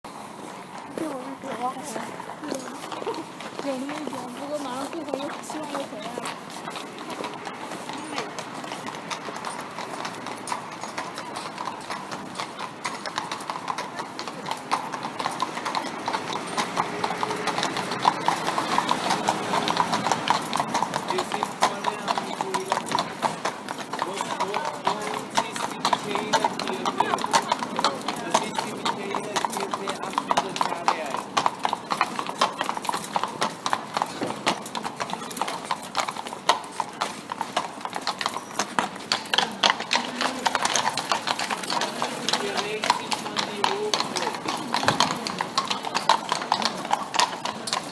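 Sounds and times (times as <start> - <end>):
hooves clip-clopping on cobblestones: 0.0 - 47.9.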